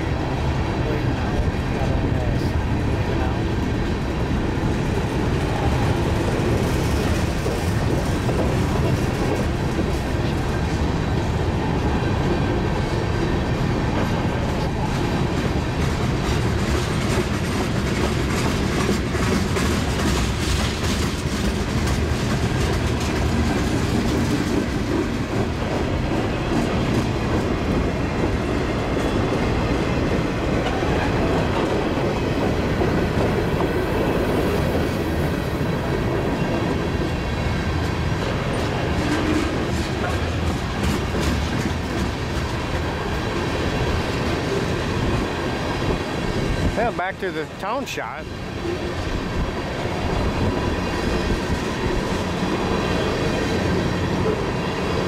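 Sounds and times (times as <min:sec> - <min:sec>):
freight train wheels clacking: 0:00.0 - 0:55.0.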